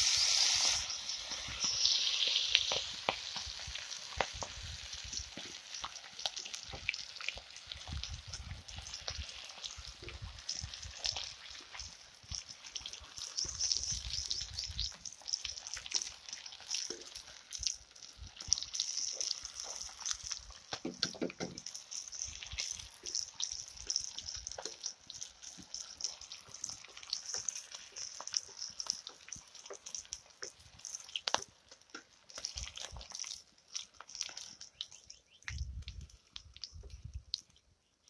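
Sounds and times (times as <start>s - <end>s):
fish frying in hot oil: 0.0s - 38.0s.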